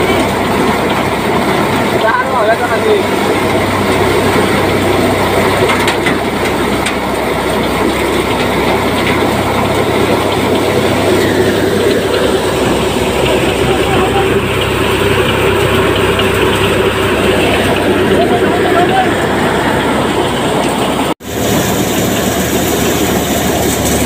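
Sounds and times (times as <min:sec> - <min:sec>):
threshing machine churning: 0:00.0 - 0:24.0
tractor diesel engine droning: 0:00.0 - 0:24.0.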